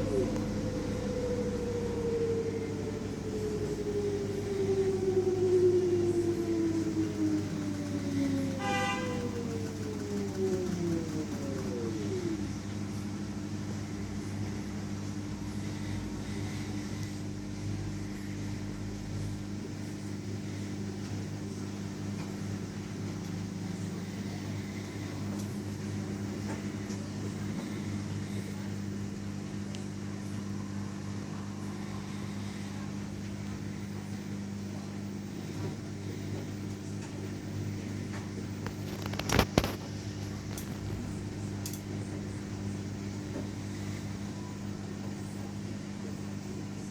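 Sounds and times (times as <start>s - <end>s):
washing machine spinning: 0.0s - 46.9s.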